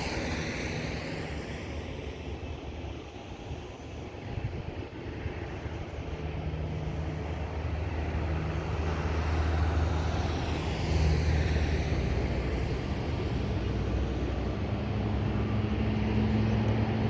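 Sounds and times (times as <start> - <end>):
jet engines deep rumble: 0.0 - 17.0.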